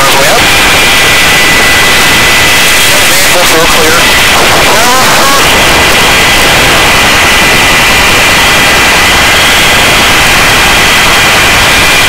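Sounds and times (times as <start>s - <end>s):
helicopter hovering: 0.0s - 12.0s
thin high whine: 0.0s - 12.0s.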